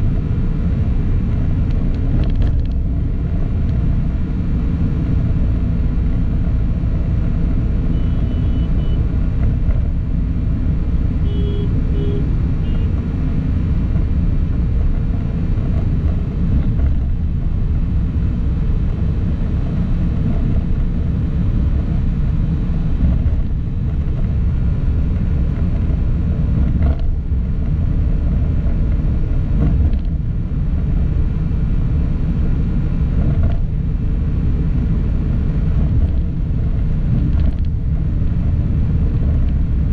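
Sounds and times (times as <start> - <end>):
vehicle engine and tyre noise: 0.0 - 39.9.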